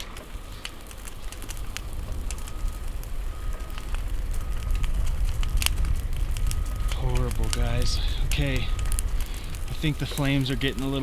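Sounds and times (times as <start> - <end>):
fire crackling and popping: 0.0 - 11.0
fire low rumble: 0.0 - 11.0.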